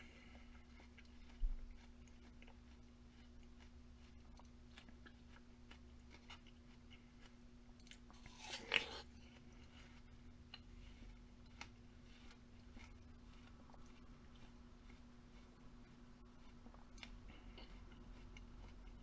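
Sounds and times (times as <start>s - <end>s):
steady low hum: 0.0s - 19.0s
chewing crunches: 0.1s - 19.0s.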